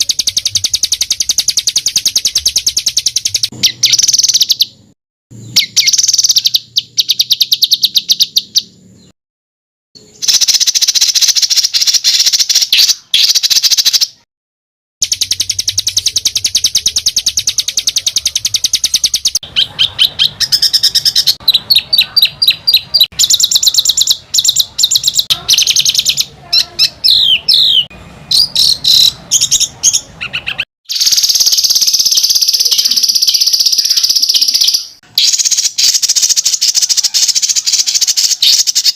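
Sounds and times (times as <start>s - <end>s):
harsh buzzing bird trill: 0.0s - 9.1s, 15.0s - 38.9s
songbird song with rapid rolls: 0.0s - 9.2s, 10.0s - 14.2s, 15.0s - 38.9s.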